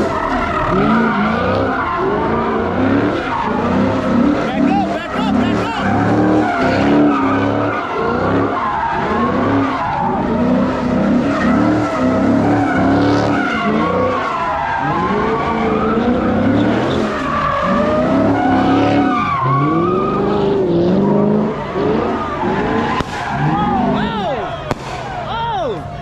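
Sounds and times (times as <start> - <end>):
car engine revving: 0.0 - 26.0
tyres skidding and squealing: 0.0 - 26.0.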